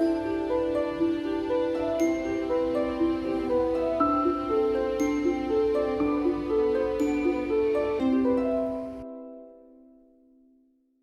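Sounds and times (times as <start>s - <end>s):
gentle background music: 0.0s - 10.5s.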